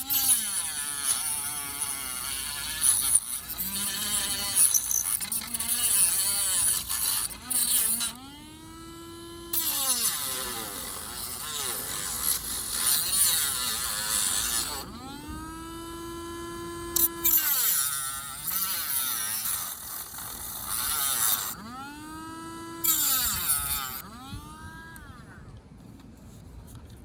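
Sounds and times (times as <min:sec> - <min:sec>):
rotary tool grinding plastic: 0:00.0 - 0:27.0
rotary tool whining: 0:00.0 - 0:27.0.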